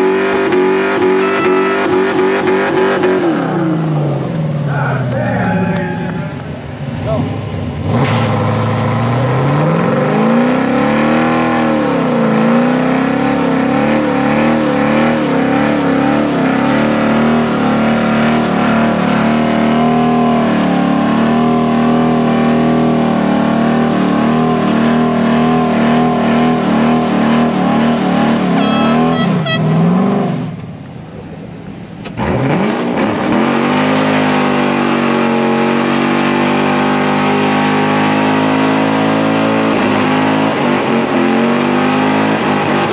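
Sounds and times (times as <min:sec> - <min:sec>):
car engine revving: 0:00.0 - 0:30.9, 0:32.0 - 0:42.9.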